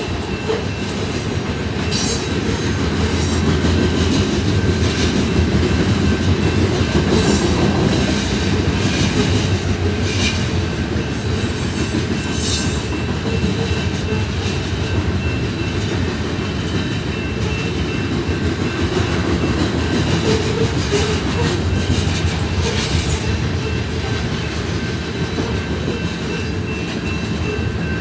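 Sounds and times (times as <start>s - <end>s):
freight train wheels rumbling on rail: 0.0s - 28.0s.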